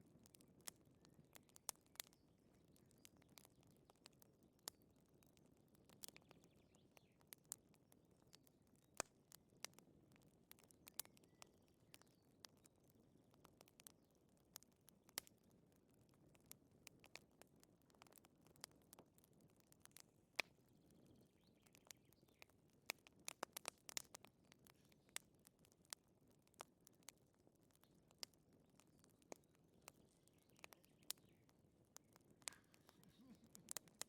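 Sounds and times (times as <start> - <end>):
wood fire crackling softly: 0.0 - 34.0.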